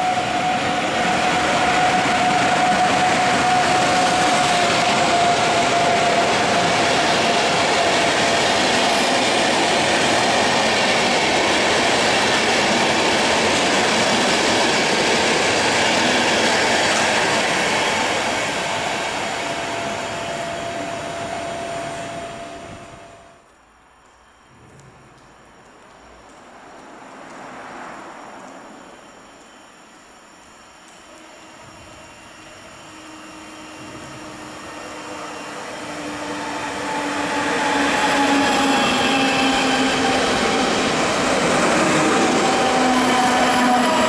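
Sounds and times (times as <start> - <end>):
locomotive whine: 0.0 - 26.4, 27.2 - 44.0
train wheels rolling on rail: 0.0 - 44.0.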